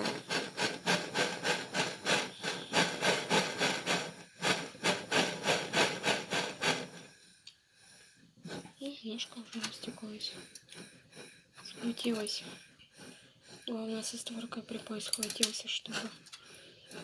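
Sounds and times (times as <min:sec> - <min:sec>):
rhythmic rubbing on metal part: 0:00.0 - 0:07.1, 0:08.4 - 0:17.0.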